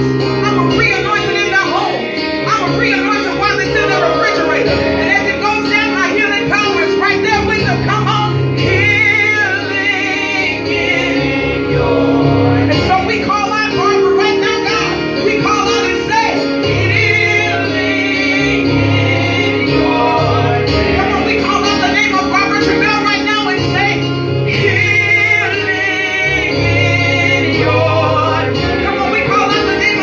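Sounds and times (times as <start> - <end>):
held bass notes: 0.0 - 30.0.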